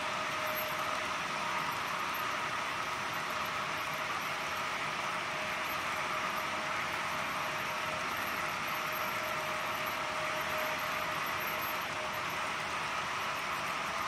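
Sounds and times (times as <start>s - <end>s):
model train wheels whirring: 0.0s - 14.0s.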